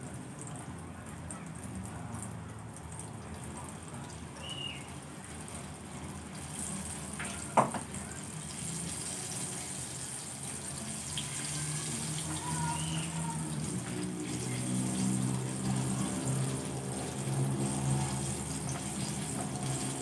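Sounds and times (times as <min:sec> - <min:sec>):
water running from tap: 0:01.4 - 0:20.0.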